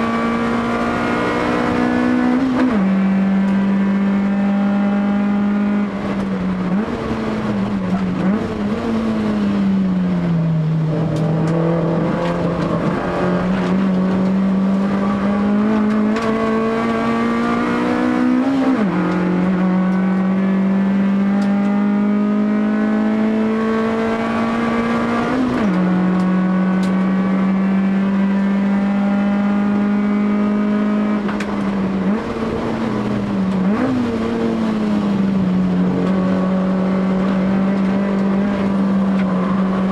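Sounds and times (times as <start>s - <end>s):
car engine revving high: 0.0s - 39.9s.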